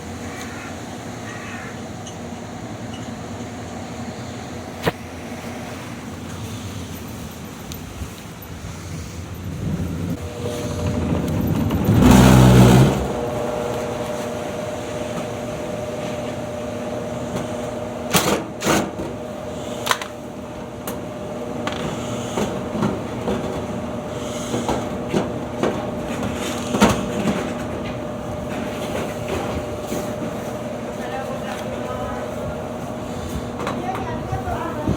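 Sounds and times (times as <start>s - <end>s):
washer-dryer humming: 0.0s - 34.9s.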